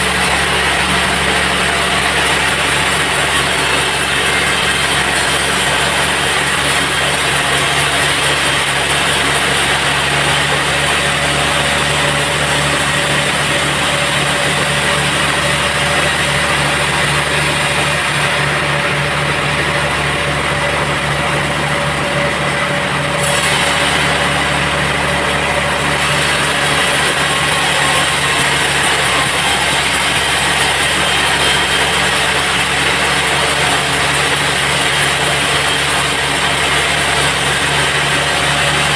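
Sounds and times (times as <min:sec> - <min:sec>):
bandsaw machinery drone: 0:00.0 - 0:38.9.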